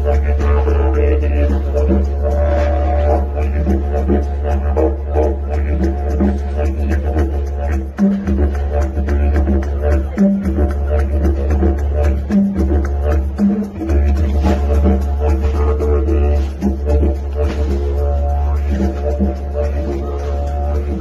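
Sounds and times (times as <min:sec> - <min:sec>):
music melody: 0:00.0 - 0:21.0
regular beat: 0:00.0 - 0:21.0.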